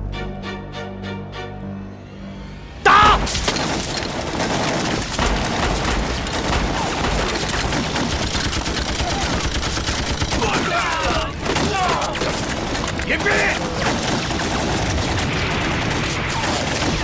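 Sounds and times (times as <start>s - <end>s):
rapid rifle gunfire: 3.2s - 17.0s.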